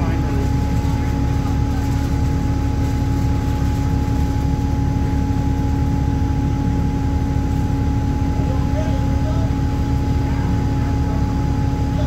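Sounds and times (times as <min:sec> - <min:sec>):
bus engine idling rumble: 0:00.0 - 0:12.0
constant hum: 0:00.0 - 0:12.0.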